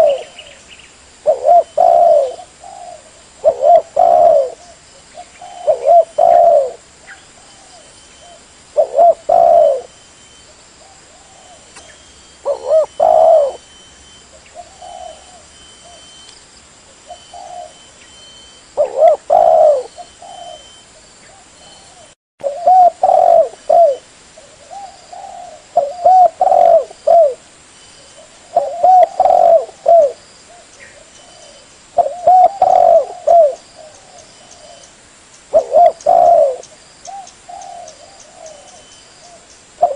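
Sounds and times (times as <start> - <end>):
dove cooing: 0.0 - 0.6, 1.2 - 16.3, 16.9 - 34.9, 35.5 - 39.9.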